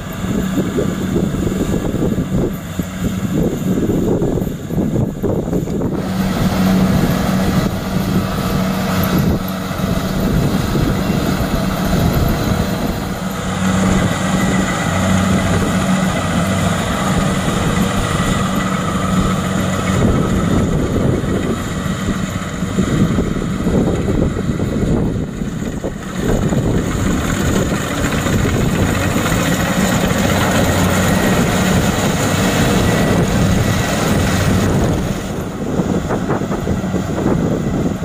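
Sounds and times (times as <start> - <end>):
diesel engine running under load: 0.0 - 38.0.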